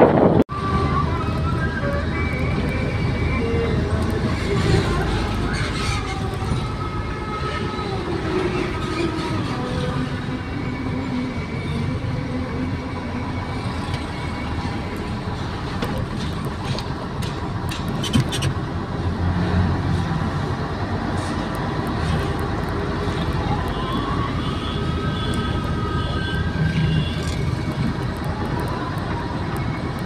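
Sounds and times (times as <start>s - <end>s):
diesel truck engine: 0.0s - 30.0s.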